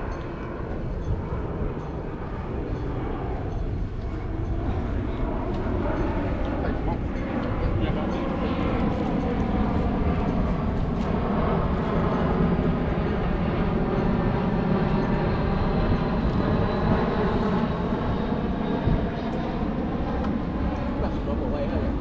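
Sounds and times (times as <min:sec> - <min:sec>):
airplane engine drone overhead: 0:00.0 - 0:22.0.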